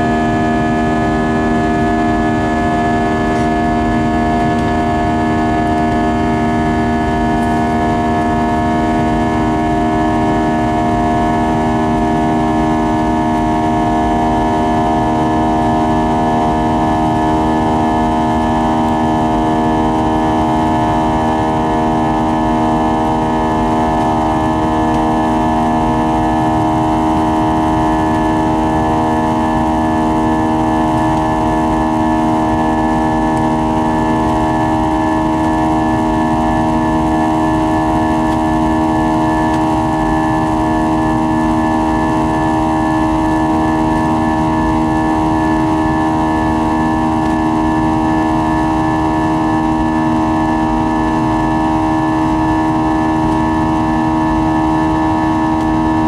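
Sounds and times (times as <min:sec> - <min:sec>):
jet engine buzzsaw drone: 0:00.0 - 0:56.0.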